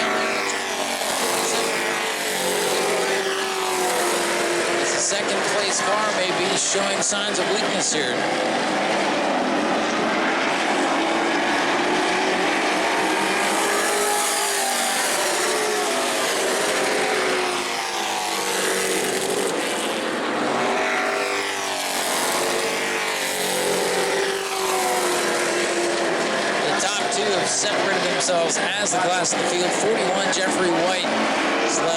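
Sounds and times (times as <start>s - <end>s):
race truck engines passing: 0.0s - 31.9s.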